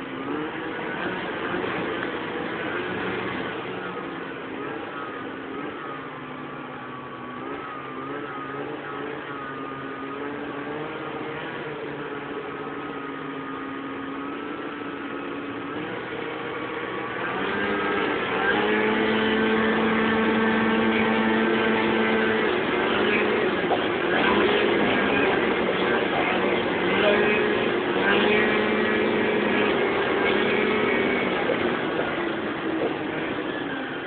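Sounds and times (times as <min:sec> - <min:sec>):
snowmobile engine running: 0:00.0 - 0:34.0.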